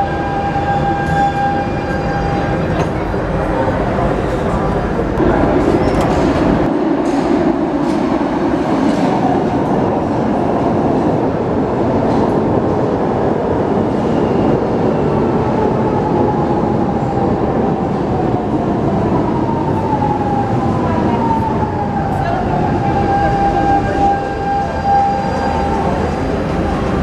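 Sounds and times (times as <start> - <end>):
subway train arriving: 0.0 - 27.0
train whine: 0.0 - 27.0.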